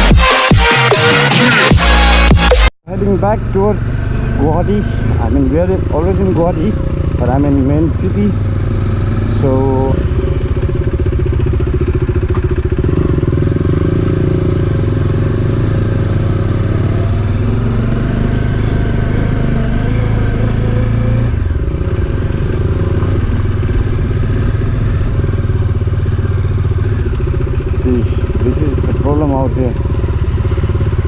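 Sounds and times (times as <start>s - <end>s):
motorcycle engine running: 1.7s - 31.0s.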